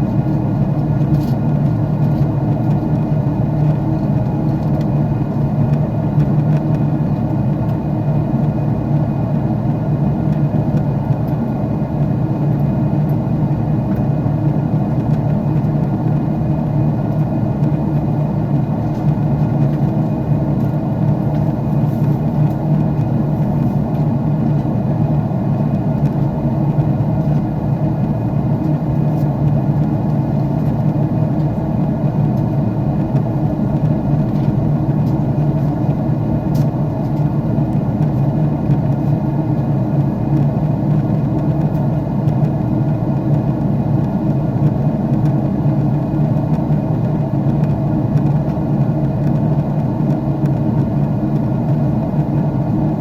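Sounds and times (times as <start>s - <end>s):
jet cabin engine drone: 0.0s - 53.0s.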